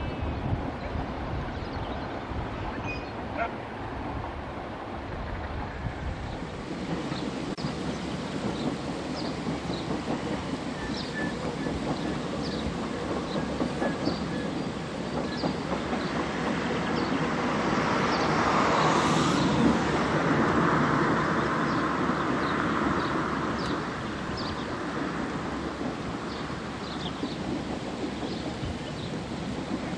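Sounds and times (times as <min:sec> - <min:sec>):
carriages running on rails: 0:00.0 - 0:29.9
distant steam train passing: 0:00.0 - 0:29.9.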